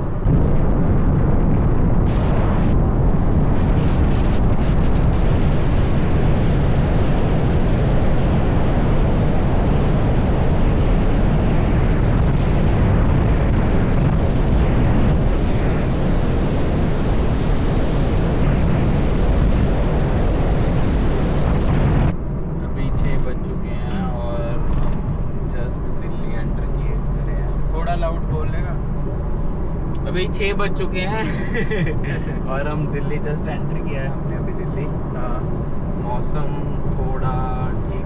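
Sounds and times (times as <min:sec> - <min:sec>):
car wind and road noise: 0:00.0 - 0:38.0.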